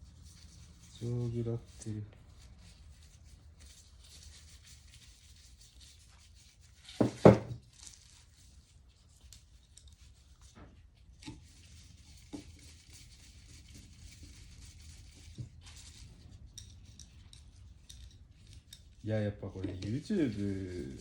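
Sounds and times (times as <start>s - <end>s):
rubbing and scraping on metal parts: 0.0s - 21.0s.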